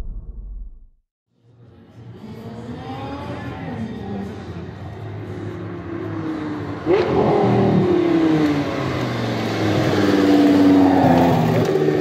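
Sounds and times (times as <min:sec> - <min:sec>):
sports car engine accelerating: 0:01.7 - 0:12.0.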